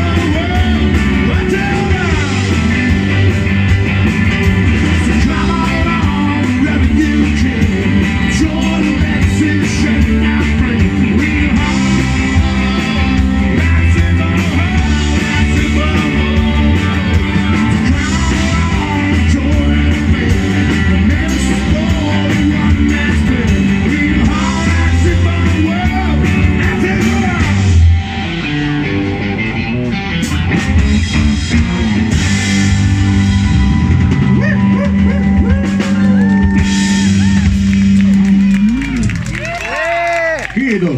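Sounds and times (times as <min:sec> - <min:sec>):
rock band playing live: 0:00.0 - 0:40.9.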